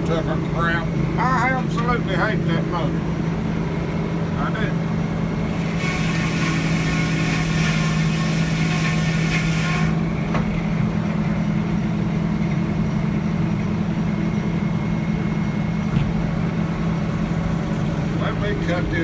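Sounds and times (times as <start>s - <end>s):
diesel engine running rough: 0.0s - 19.0s.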